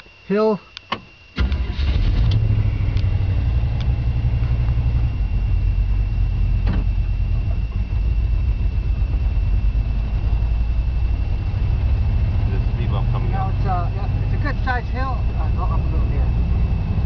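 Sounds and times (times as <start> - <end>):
van engine starting and running: 0.9 - 17.0.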